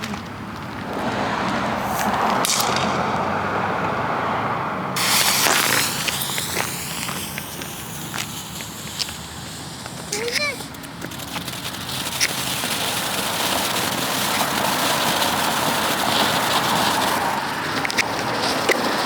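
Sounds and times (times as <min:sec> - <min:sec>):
firework crackles: 0:00.0 - 0:03.9, 0:05.0 - 0:19.0
firework fountain hissing: 0:00.6 - 0:04.2, 0:04.9 - 0:19.0.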